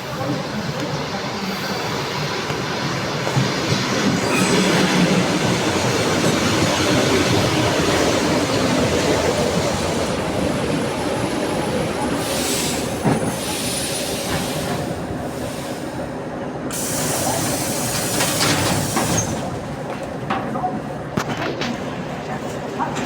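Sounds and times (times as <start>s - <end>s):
train rumbling along track: 0.0s - 23.0s.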